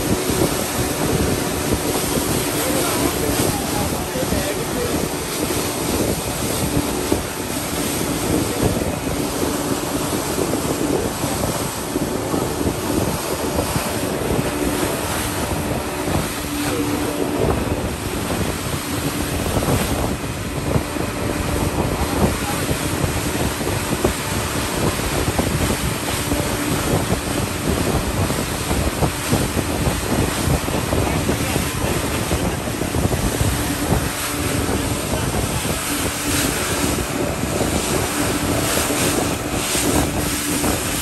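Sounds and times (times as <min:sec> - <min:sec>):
motorboat engine droning: 0:00.0 - 0:41.0
water rushing past hull: 0:00.0 - 0:41.0
wind buffeting microphone: 0:00.0 - 0:41.0.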